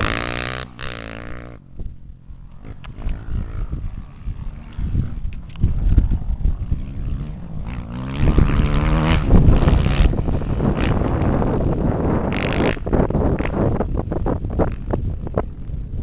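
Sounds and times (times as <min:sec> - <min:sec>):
off-road engine revving: 0:00.0 - 0:01.6, 0:02.5 - 0:14.8
wind buffeting microphone: 0:00.0 - 0:16.0.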